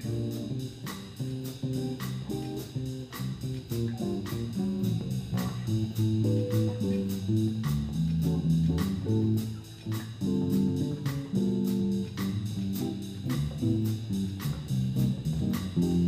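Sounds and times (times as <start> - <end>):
drums on cymbals: 0.0 - 16.0
electric bass plucked notes: 0.0 - 16.0.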